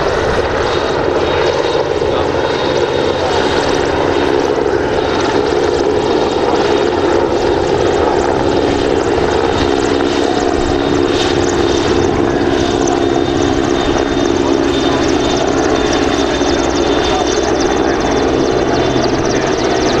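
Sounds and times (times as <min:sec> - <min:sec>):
helicopter rotor and turbine noise: 0:00.0 - 0:20.0.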